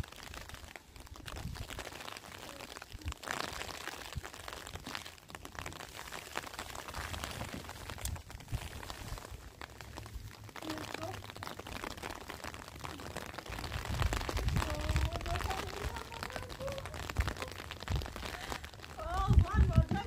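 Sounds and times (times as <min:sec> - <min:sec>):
large sheet rustling and crinkling: 0:00.0 - 0:20.0.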